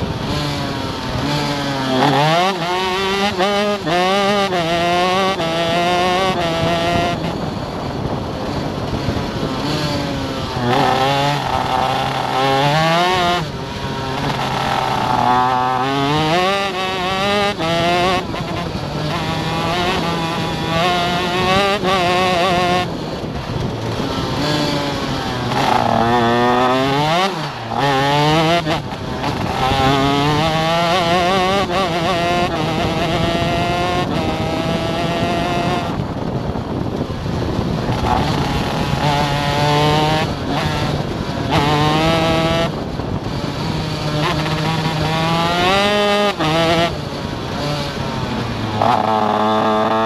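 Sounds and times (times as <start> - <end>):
kart engine revving through gears: 0.0 - 50.0.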